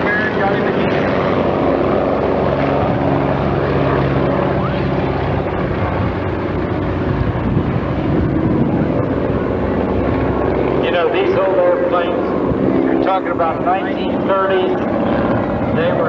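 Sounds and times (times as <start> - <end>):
propeller airplane in flight: 0.0 - 16.0.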